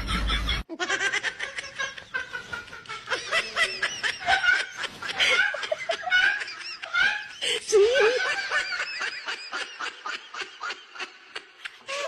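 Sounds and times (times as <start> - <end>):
people laughing and snickering: 0.0 - 12.0.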